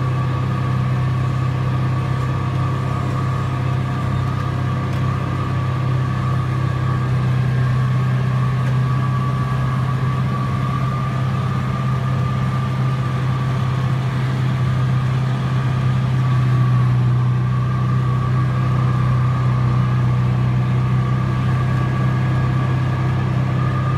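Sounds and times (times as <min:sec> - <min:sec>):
faint mower whine: 0:00.0 - 0:23.9
tractor engine drone: 0:00.0 - 0:23.9.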